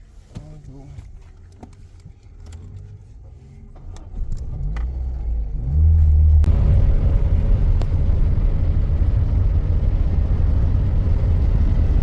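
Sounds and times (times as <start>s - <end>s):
vehicle engine rumbling: 0.1s - 12.0s.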